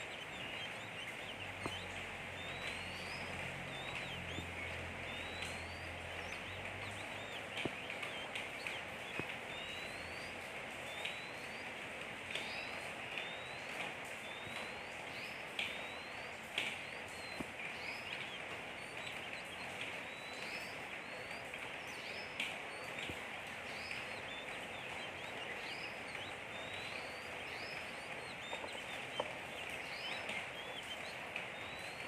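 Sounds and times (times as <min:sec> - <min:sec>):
background hiss: 0:00.0 - 0:32.0
songbird twittering: 0:00.0 - 0:32.0.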